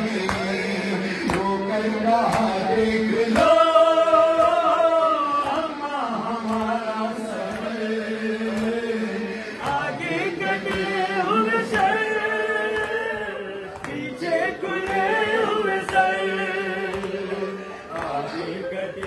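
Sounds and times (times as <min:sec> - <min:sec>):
crowd singing in unison: 0:00.0 - 0:19.0.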